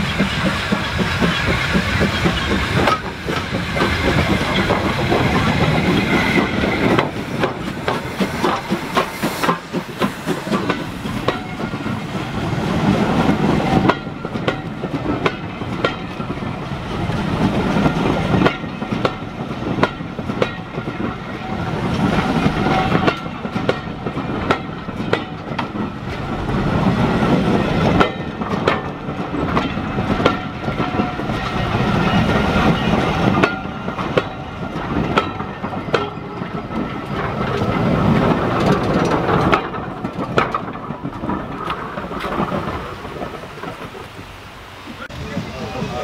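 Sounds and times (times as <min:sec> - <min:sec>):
train rumbling along track: 0:00.0 - 0:46.0
wheels clicking over rail joints: 0:00.0 - 0:46.0.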